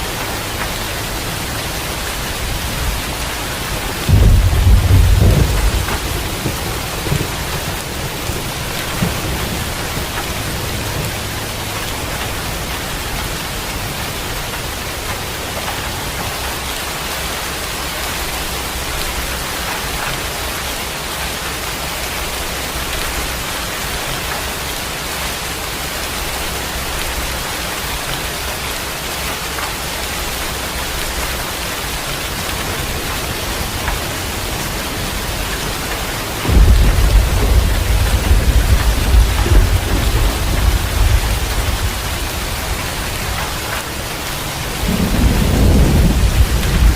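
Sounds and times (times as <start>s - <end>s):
thunder rumbling: 0.0s - 20.6s, 29.8s - 46.9s
heavy rain hissing: 0.0s - 46.9s.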